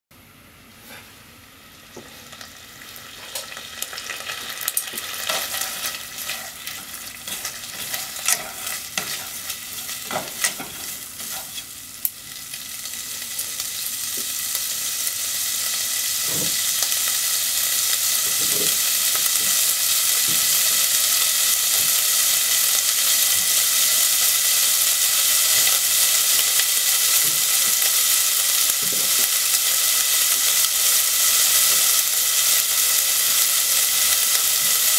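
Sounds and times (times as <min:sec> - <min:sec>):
meat sizzling in a pot: 0:01.4 - 0:34.9.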